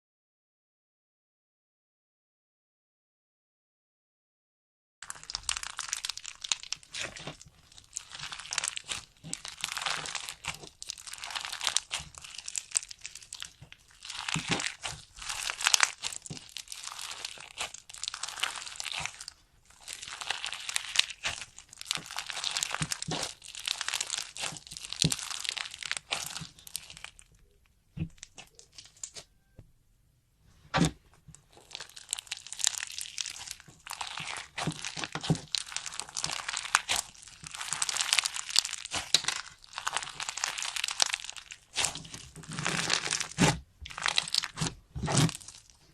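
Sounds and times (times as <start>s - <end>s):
slime crackling and popping: 5.0s - 29.3s, 30.7s - 45.9s.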